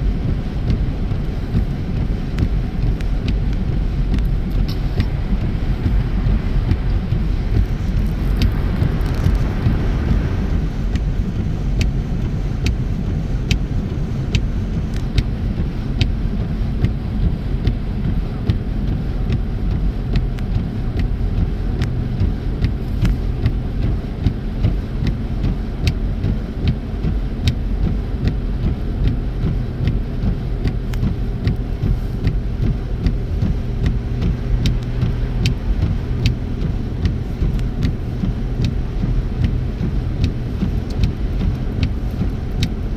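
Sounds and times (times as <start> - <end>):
tyres and engine rumble: 0.0 - 42.9.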